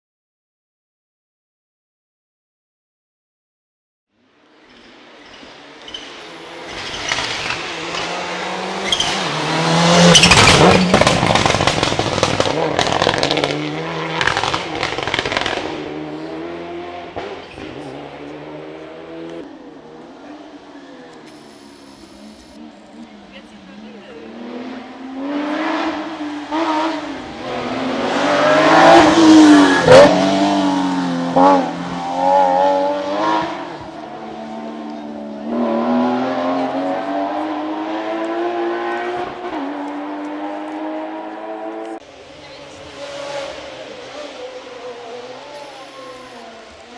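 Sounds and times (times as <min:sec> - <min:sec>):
rally car engine passing: 0:05.7 - 0:46.9.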